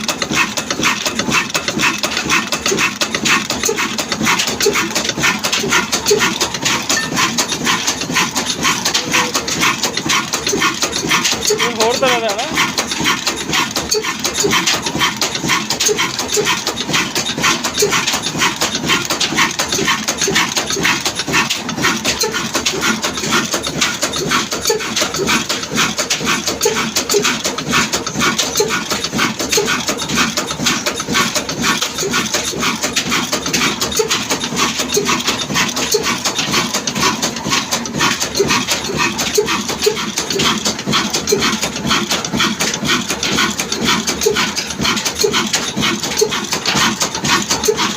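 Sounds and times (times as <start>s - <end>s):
diesel engine clattering: 0.0s - 47.9s.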